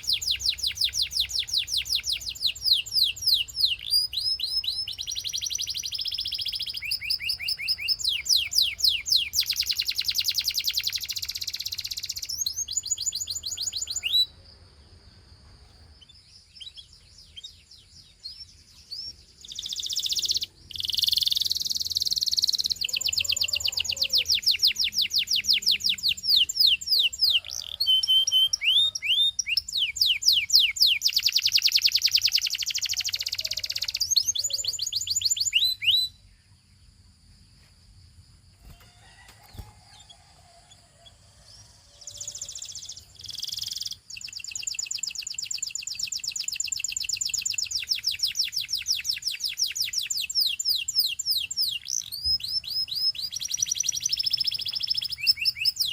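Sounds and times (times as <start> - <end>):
canary singing rapid trills: 0.0 - 14.4, 16.0 - 36.3, 38.6 - 55.9
faint bird chirps: 0.0 - 55.9.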